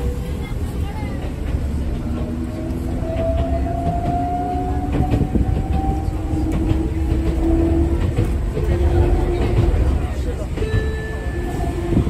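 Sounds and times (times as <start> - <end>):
electric train running: 0.0 - 12.0
wheels clicking on track: 0.0 - 12.0
train motor and gear whine: 1.4 - 12.0.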